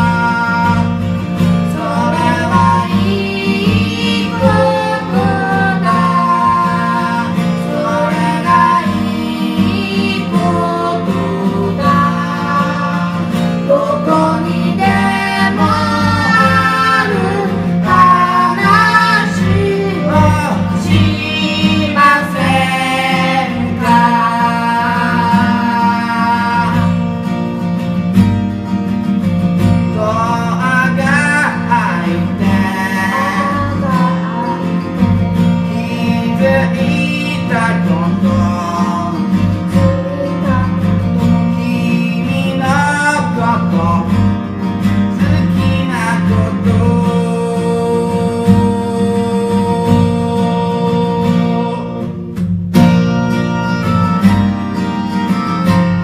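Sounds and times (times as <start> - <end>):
person singing: 0.0 - 27.0, 29.9 - 44.3, 45.1 - 52.3
guitar accompaniment: 0.0 - 56.0.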